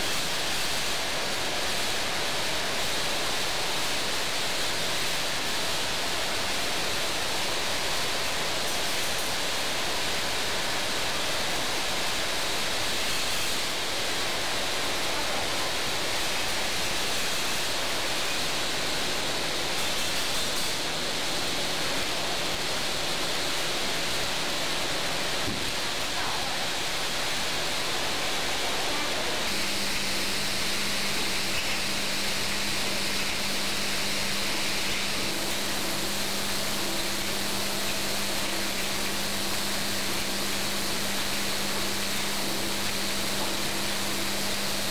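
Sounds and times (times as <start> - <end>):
filling machine hiss: 0.0 - 44.9.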